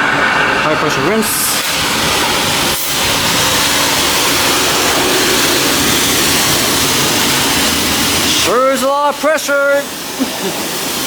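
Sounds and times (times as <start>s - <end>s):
high-pressure water spraying: 0.0s - 11.0s.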